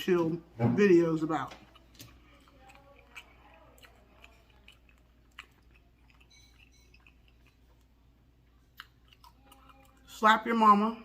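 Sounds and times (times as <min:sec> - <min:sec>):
faint chewing: 0:01.4 - 0:10.5.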